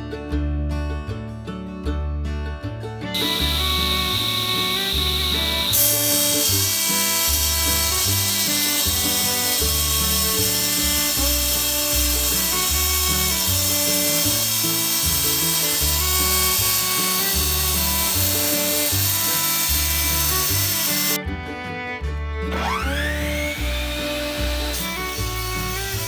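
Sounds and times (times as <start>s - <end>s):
background music with bass line: 0.0s - 26.0s
table saw cutting aluminum: 3.1s - 21.2s, 22.4s - 26.0s.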